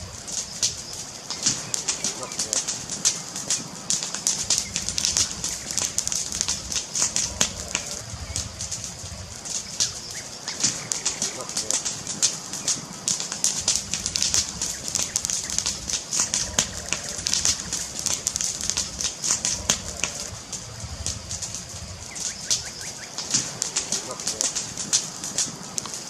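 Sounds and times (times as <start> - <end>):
low steady rumble: 0.0 - 26.0
wood fire crackling: 0.0 - 26.0.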